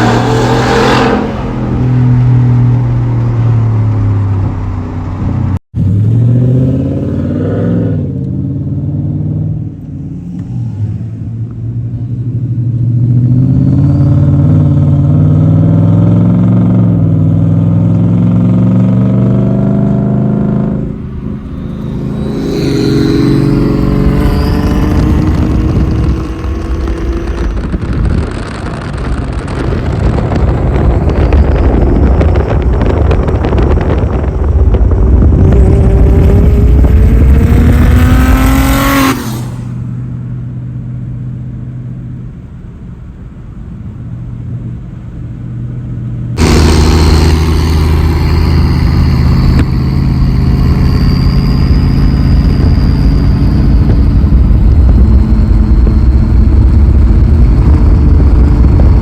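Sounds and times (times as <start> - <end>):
car engine accelerating: 0.0 - 43.1, 44.0 - 59.0.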